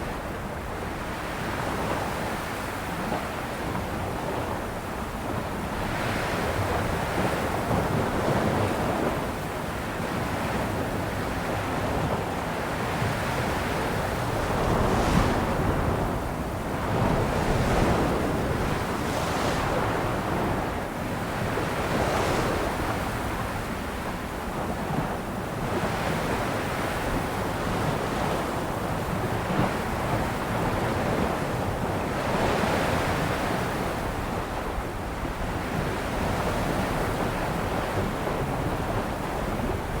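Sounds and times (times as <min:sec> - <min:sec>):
ocean waves washing onto shore: 0:00.0 - 0:40.0
wind noise on microphone: 0:00.0 - 0:40.0.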